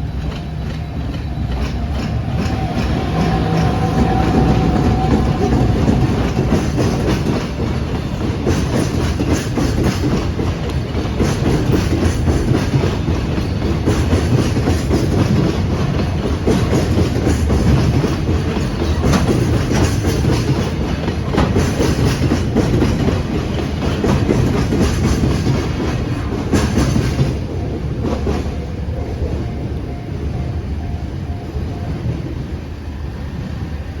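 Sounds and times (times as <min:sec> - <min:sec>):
wheels clacking over rail joints: 0:00.0 - 0:29.4
freight train rolling past: 0:00.0 - 0:34.0.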